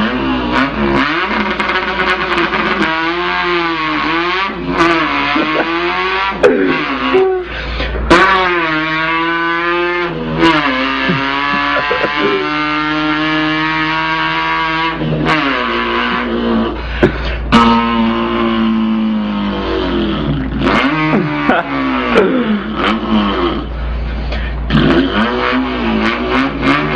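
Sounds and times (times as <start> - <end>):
boy imitating car engine: 0.0 - 26.9.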